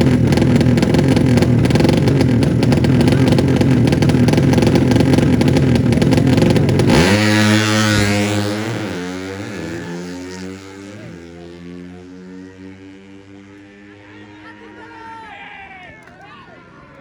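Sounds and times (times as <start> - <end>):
motorcycle engine at high revs: 0.0 - 14.4.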